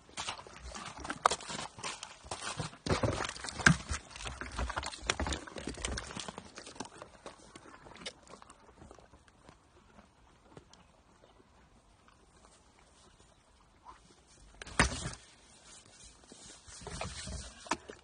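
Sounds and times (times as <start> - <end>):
horses drinking: 0.0 - 18.0.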